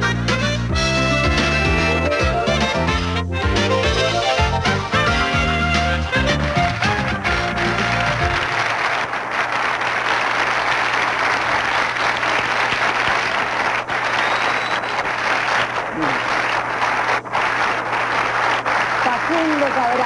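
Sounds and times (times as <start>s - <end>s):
audience applauding: 1.3s - 20.0s.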